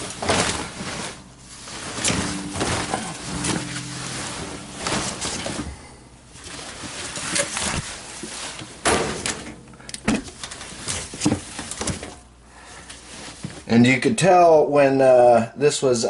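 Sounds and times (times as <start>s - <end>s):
wet laundry rustling and swishing: 0.0s - 9.5s, 10.3s - 13.7s.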